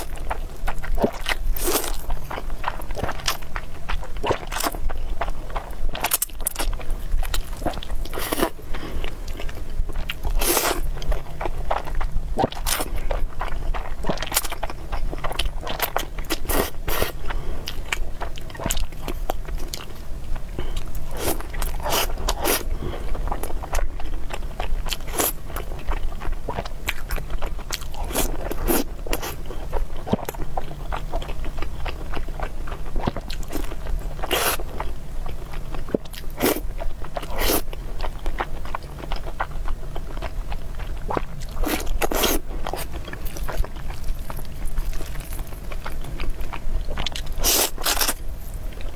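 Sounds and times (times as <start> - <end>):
person chewing and biting: 0.0 - 48.9
steady low hum: 0.0 - 48.9.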